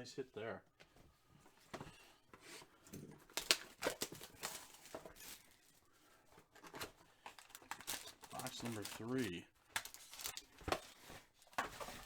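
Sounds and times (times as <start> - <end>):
cards and packaging handled: 1.6 - 12.0.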